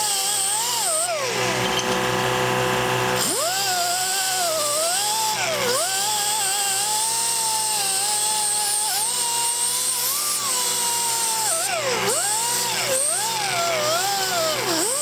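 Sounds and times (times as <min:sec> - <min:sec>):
air die grinder whining: 0:00.0 - 0:15.0.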